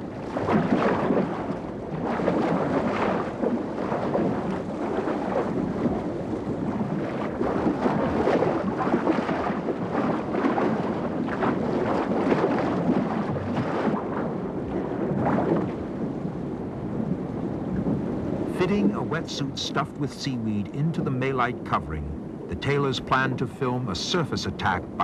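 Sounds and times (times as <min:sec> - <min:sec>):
sea water splashing and churning: 0:00.0 - 0:25.0.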